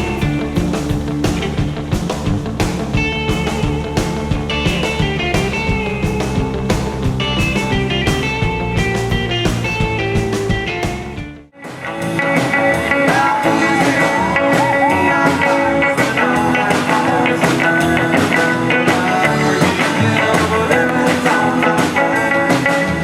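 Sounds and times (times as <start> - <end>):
electric guitar: 0.0 - 23.0
rockabilly band playing: 0.0 - 23.0.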